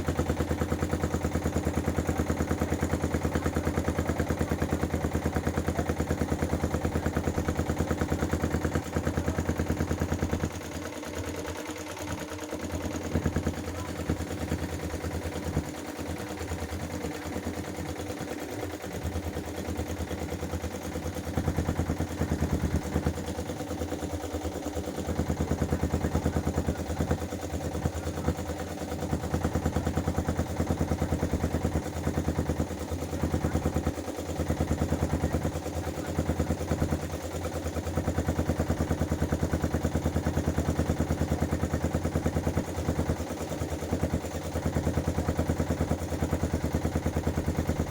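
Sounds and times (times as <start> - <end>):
motorboat engine chugging: 0.0 - 47.9.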